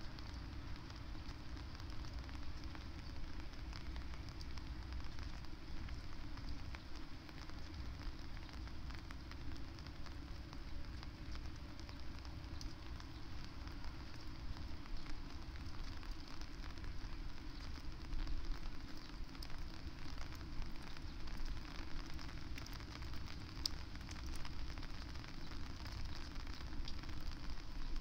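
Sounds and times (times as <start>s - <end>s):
steady rain pattering: 0.0s - 28.0s.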